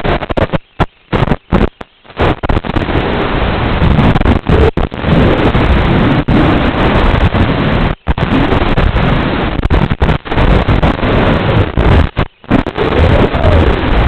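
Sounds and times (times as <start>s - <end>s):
radio static: 0.0s - 14.0s
rough propeller and wind noise: 0.0s - 14.0s.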